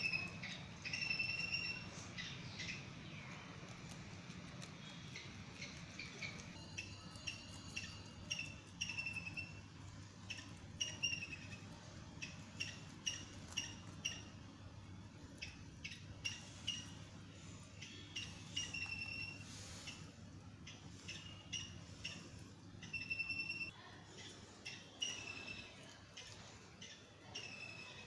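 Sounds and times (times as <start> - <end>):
bird chirps: 0.0 - 4.0, 4.6 - 14.4, 15.3 - 23.7, 24.5 - 28.0
rabbits chewing leaves: 0.0 - 28.0.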